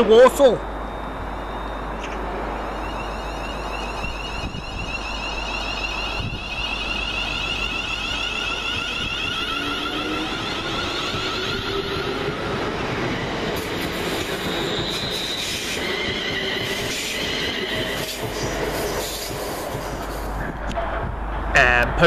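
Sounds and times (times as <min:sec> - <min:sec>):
electric train passing: 0:00.0 - 0:21.6
high traction whine: 0:00.0 - 0:22.0.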